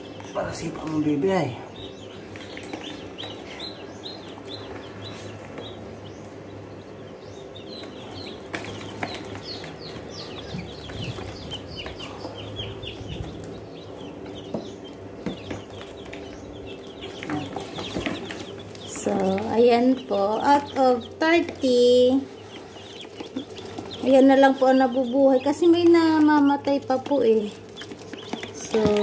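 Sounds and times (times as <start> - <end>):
chicks peeping: 0.0 - 29.0.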